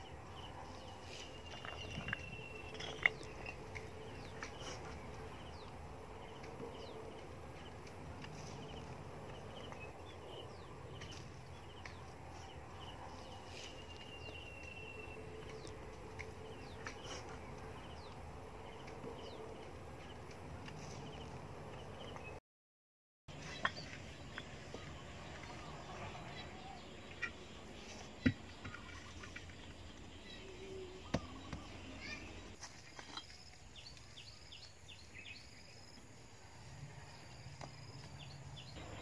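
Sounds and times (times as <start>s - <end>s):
small birds chirping: 0.0s - 22.4s, 23.3s - 39.0s.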